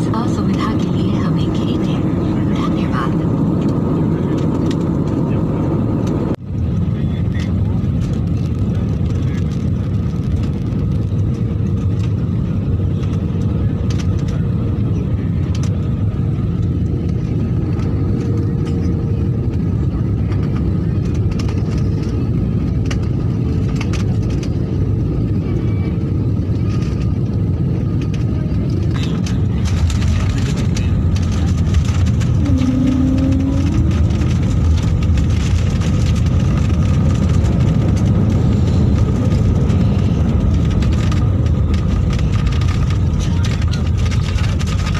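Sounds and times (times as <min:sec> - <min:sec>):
aircraft touching down: 0:00.0 - 0:44.9
jet engine and airflow rumble: 0:00.0 - 0:44.9.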